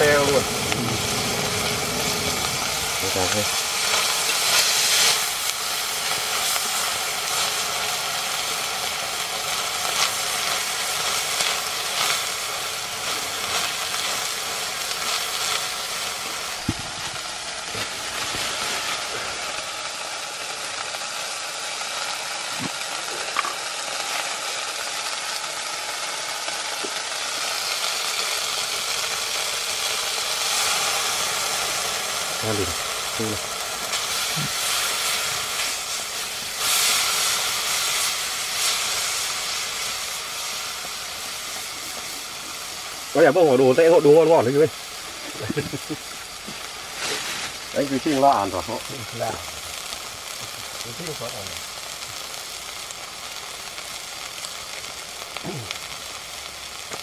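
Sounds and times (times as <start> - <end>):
frying in oil sizzling: 0.0 - 57.0.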